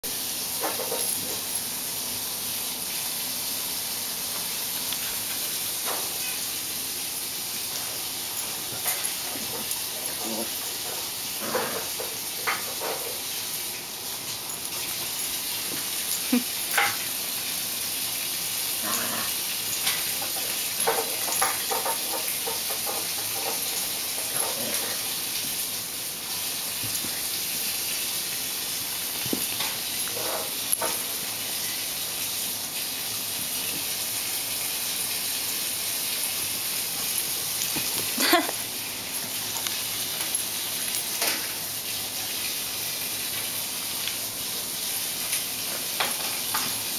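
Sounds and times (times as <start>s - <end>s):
steady hiss: 0.1s - 46.9s.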